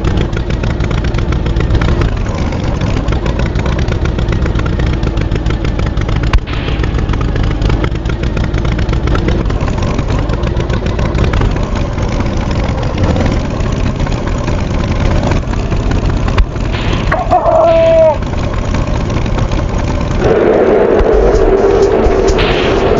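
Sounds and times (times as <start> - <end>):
tractor engine rumbling: 0.0 - 22.9.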